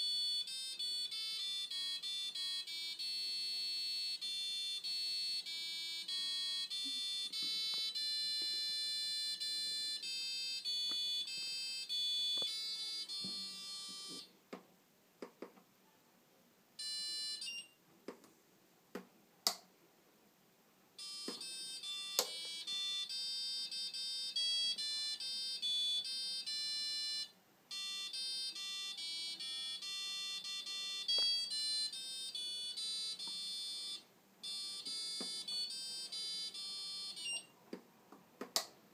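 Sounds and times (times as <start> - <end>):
washing machine beeping tune: 0.0 - 14.3, 16.8 - 17.7, 21.0 - 37.5.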